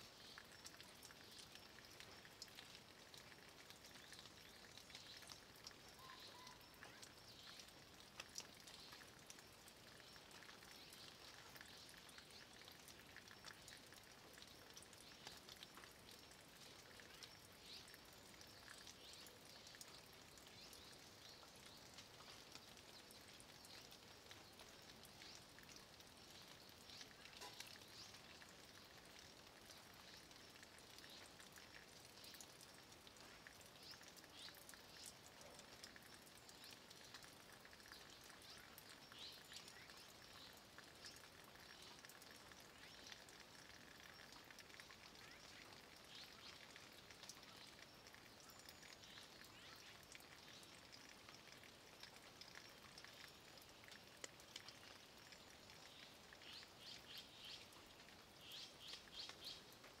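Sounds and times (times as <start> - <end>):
drips ticking: 0.0 - 60.0
light rain falling on leaves: 0.0 - 60.0.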